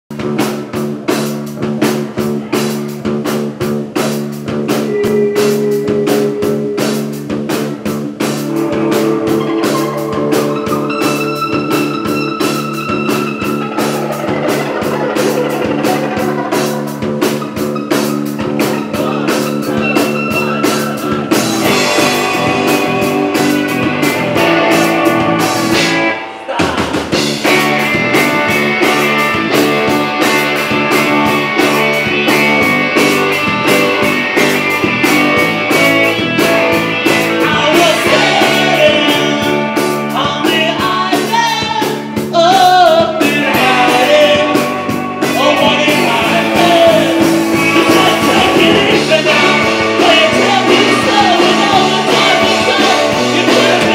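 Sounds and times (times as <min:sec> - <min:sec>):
rock band playing: 0:00.1 - 0:53.9.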